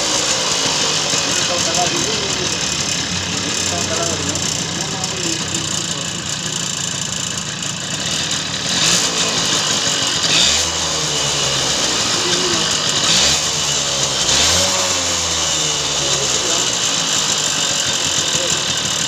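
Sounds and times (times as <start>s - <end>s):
clutch noise: 0.0s - 19.0s
moped engine revving: 0.0s - 19.0s.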